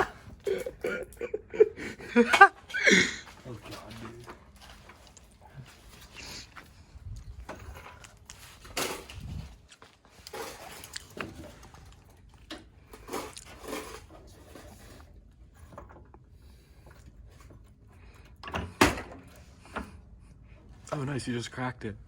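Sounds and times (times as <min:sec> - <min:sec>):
tools clanking and rattling: 0:02.2 - 0:20.0.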